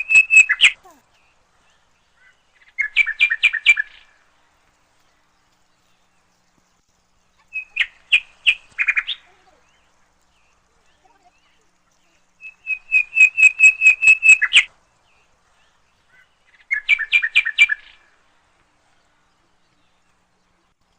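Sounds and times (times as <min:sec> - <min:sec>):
bird chirping: 0:00.0 - 0:20.9.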